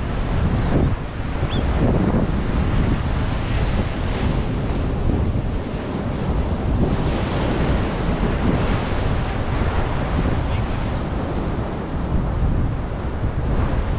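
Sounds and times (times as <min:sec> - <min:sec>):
surf breaking on beach: 0:00.0 - 0:13.9
wind buffeting microphone: 0:00.0 - 0:13.9.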